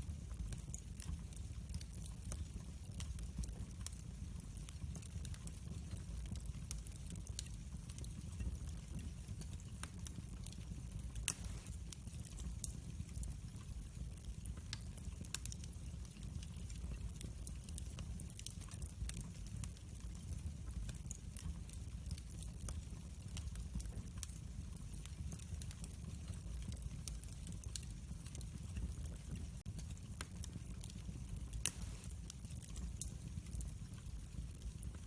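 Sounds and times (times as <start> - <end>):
low rumble of flames: 0.0 - 35.0
wood fire crackling and popping: 0.0 - 35.0.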